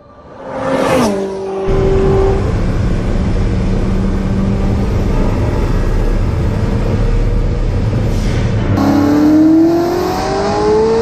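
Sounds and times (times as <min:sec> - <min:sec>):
car engine drone inside cabin: 0:01.6 - 0:11.0.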